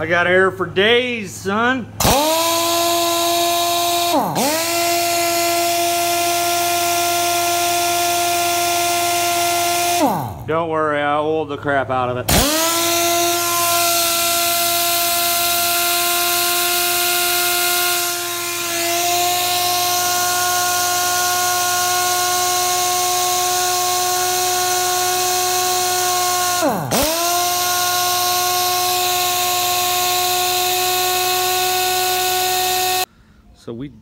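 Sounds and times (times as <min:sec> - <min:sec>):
air impact wrench whine: 0:01.9 - 0:10.7, 0:12.2 - 0:33.1.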